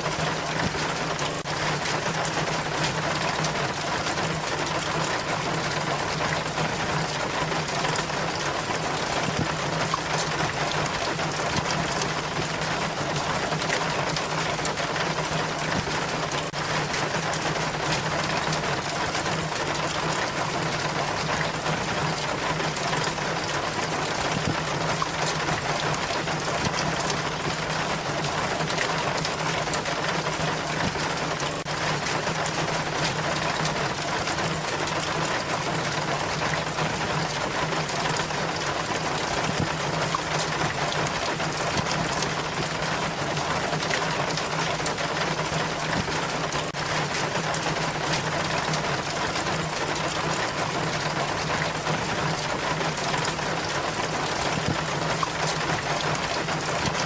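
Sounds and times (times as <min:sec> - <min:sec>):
rainwater running down rain chain: 0:00.0 - 0:57.0.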